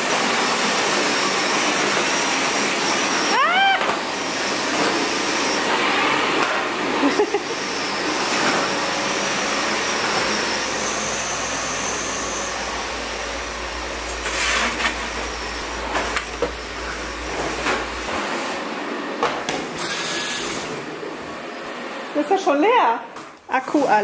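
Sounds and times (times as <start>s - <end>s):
stick vacuum cleaner whine: 0.0s - 22.3s.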